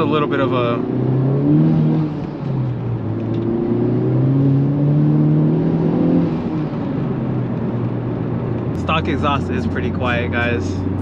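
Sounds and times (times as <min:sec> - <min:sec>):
car engine drone from inside cabin: 0:00.0 - 0:11.0.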